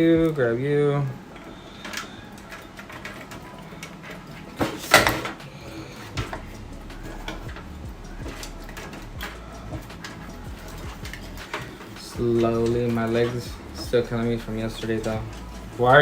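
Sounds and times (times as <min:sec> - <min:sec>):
cables clicking and rubbing: 0:00.0 - 0:16.0.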